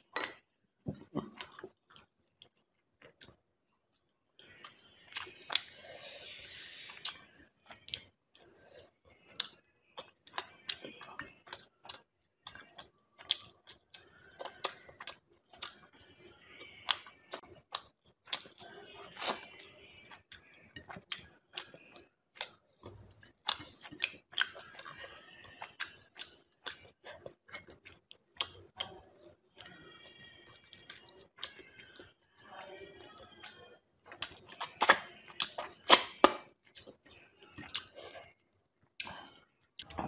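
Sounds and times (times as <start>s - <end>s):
person chewing wet smacks: 1.0s - 3.4s, 4.4s - 5.8s, 9.3s - 32.1s, 33.0s - 38.4s.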